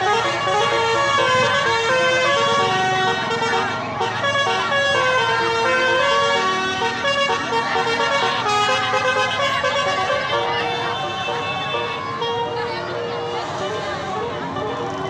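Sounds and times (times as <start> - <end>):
horn playing a tune: 0.0 - 15.0.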